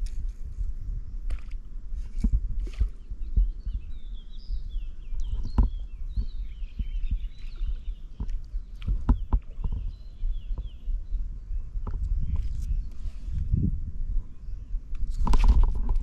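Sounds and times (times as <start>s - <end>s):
low microphone rumble: 0.0s - 16.0s
small birds warbling and twittering: 0.0s - 16.0s.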